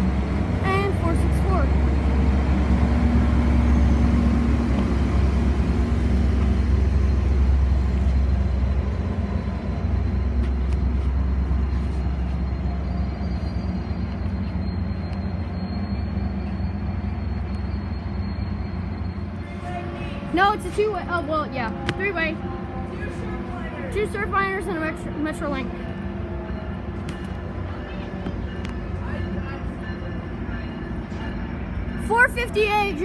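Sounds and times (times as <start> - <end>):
diesel locomotive engine rumble: 0.0 - 33.0
train wheel noise: 0.0 - 33.0.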